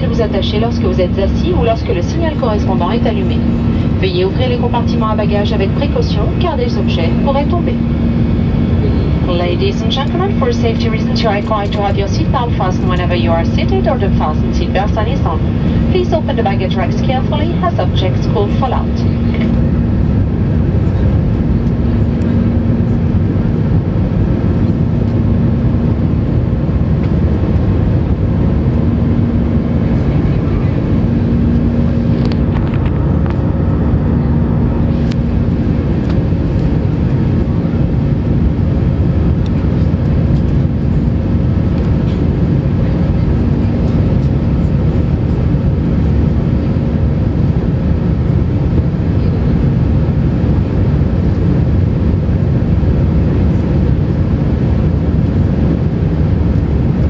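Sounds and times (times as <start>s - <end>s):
airplane cabin engine noise: 0.0s - 57.0s.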